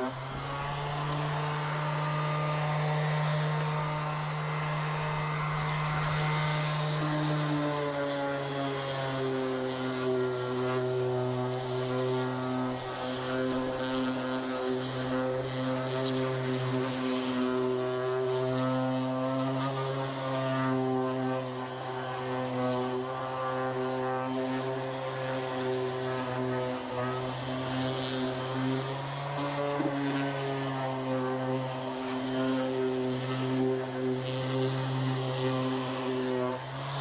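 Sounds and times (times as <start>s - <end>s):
electric sander motor hum: 0.0s - 37.0s
sandpaper rasping on paint: 0.0s - 37.0s.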